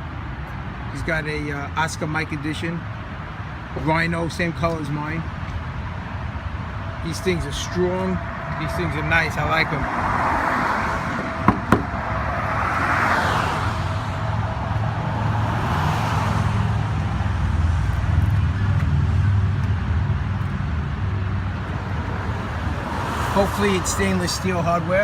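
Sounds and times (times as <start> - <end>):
cars passing by: 0.0 - 25.0
traffic rumble: 0.0 - 25.0.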